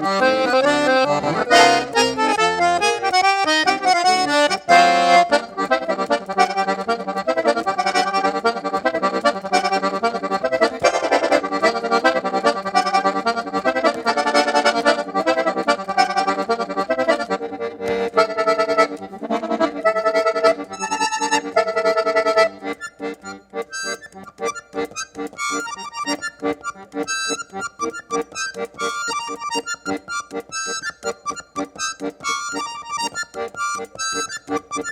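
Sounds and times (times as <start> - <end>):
accordion playing: 0.0 - 34.9.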